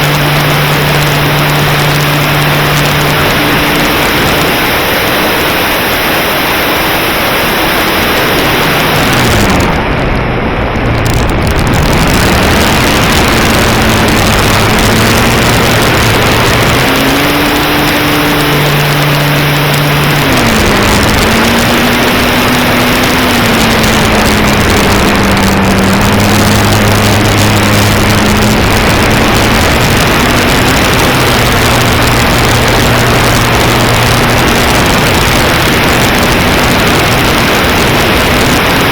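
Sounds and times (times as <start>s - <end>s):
propeller aircraft engine: 0.0s - 38.9s
rushing wind: 0.0s - 38.9s.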